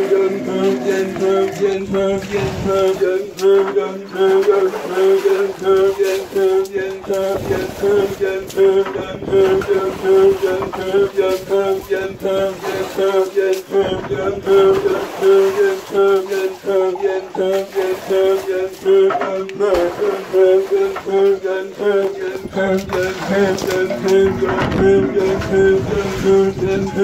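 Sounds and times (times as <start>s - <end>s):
men singing a work chant: 0.0s - 27.0s
water splashing: 0.0s - 27.0s.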